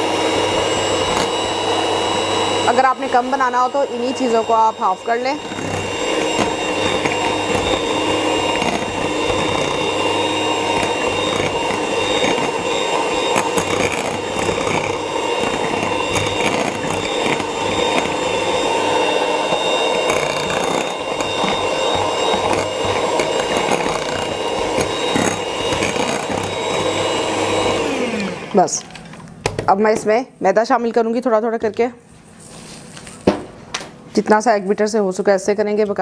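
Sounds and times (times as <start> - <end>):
electric hand mixer whirring: 0.0 - 29.0.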